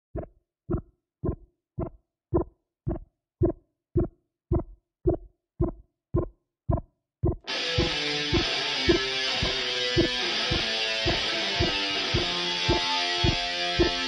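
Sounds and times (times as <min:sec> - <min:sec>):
steady pitched thumps: 0:00.2 - 0:14.0.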